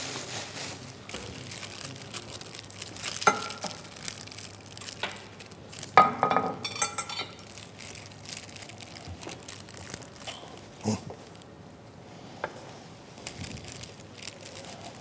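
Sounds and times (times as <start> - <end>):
plastic bag crinkling: 0.0 - 11.6, 13.0 - 15.0.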